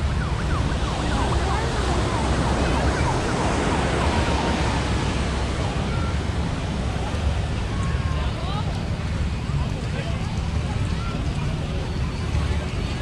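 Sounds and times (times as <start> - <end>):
surf-like noise: 0.0 - 13.0.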